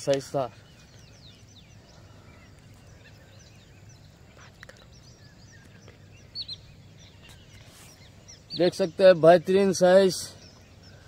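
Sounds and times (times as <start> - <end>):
birds chirping: 0.0 - 11.0
steady low background noise: 0.0 - 11.0.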